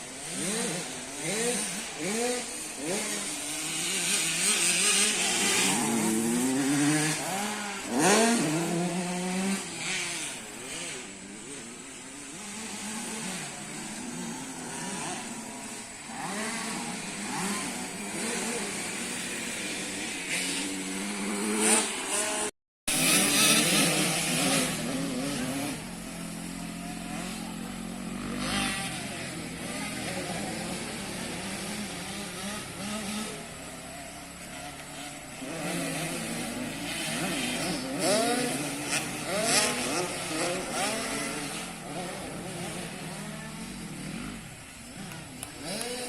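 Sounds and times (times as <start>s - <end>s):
dirt bikes revving: 0.0s - 46.0s.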